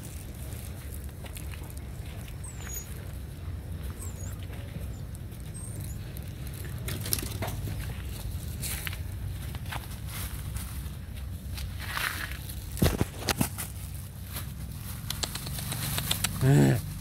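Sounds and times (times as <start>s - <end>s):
footsteps on dirt: 0.0s - 15.0s
low steady rumble: 0.0s - 17.0s.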